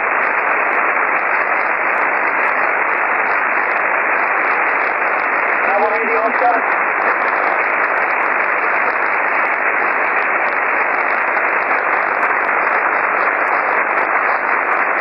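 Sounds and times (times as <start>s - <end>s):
shortwave receiver hiss: 0.0s - 15.0s.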